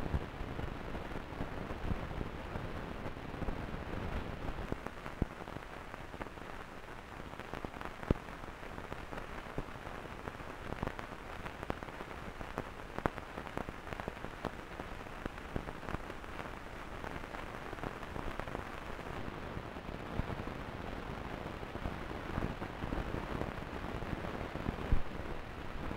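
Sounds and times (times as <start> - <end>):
crackling clicks and pops: 0.0 - 25.9
steady hiss: 0.0 - 25.9.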